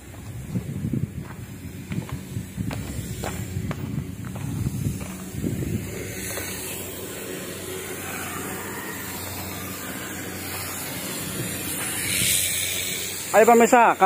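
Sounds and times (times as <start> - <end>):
steady hissing noise: 0.0 - 14.0.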